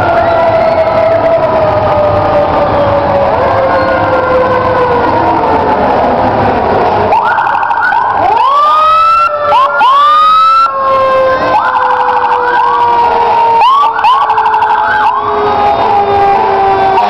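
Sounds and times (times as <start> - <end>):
fire truck sirens: 0.0 - 17.0.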